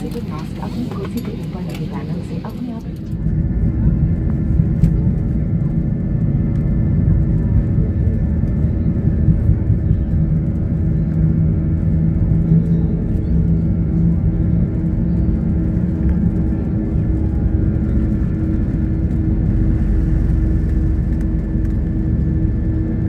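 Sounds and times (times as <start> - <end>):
jet engines and wheels rumbling: 0.0 - 23.0
steady hum: 0.0 - 23.0.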